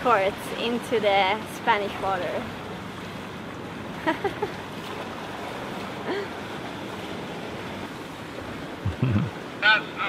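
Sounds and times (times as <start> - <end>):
wind and water rushing: 0.0 - 10.0.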